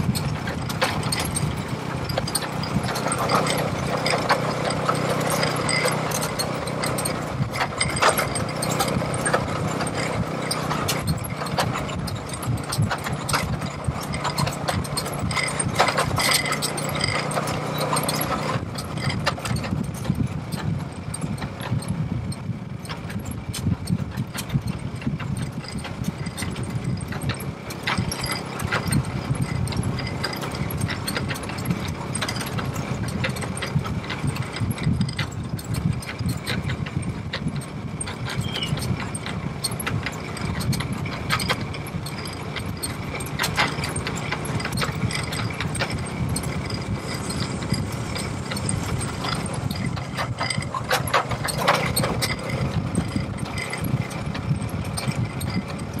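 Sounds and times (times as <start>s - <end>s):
rattles and knocks: 0.0s - 56.0s
vehicle engine running: 0.0s - 56.0s.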